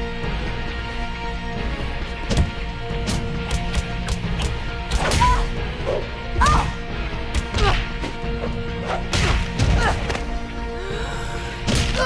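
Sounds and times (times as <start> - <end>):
background music score: 0.0 - 12.0.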